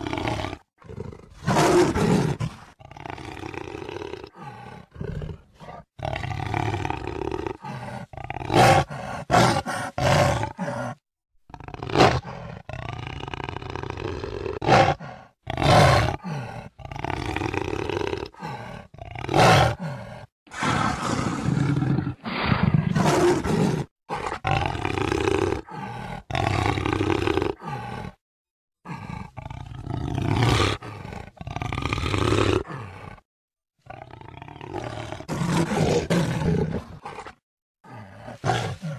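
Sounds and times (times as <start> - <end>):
jaguar roaring and grunting: 0.0 - 28.2, 28.8 - 33.2, 33.8 - 38.9.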